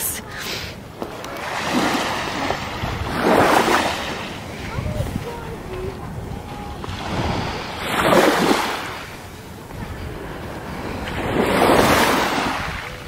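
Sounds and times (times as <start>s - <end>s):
small waves washing on beach: 0.0s - 13.0s.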